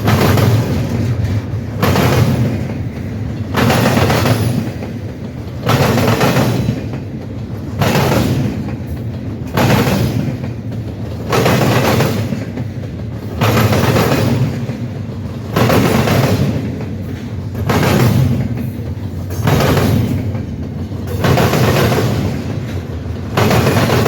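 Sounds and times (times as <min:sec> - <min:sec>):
train rolling rumble: 0:00.0 - 0:24.0
train wheels banging over crossing: 0:00.0 - 0:24.0.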